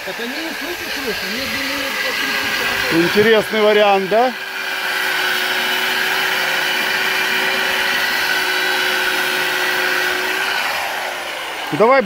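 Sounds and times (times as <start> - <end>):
angle grinder cutting wood: 0.0 - 12.0.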